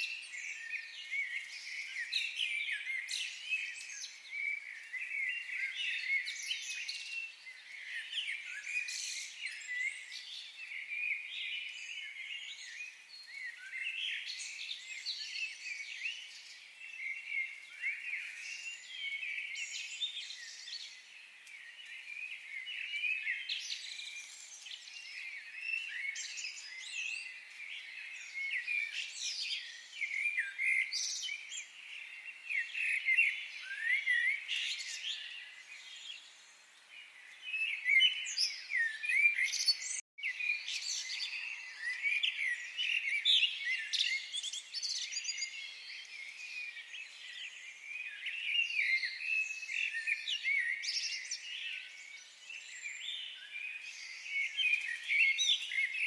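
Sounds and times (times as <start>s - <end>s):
birds chirping and whistling: 0.0s - 56.0s.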